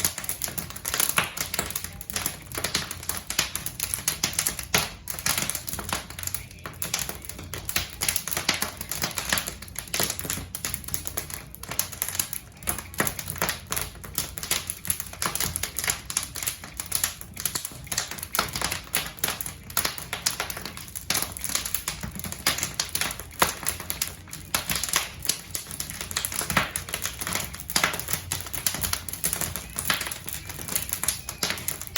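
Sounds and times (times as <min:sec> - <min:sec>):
logs crackling in a fireplace: 0:00.0 - 0:31.9.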